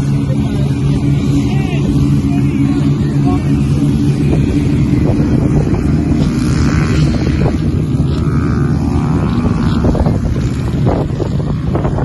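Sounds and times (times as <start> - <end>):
dirt bike engines revving: 0.0 - 12.0
wind rumble on microphone: 0.0 - 12.0.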